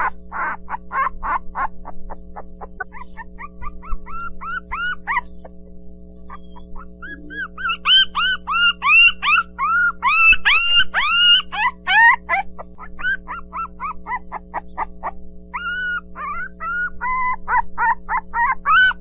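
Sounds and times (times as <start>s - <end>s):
puppies whimpering and yipping: 0.0s - 19.0s.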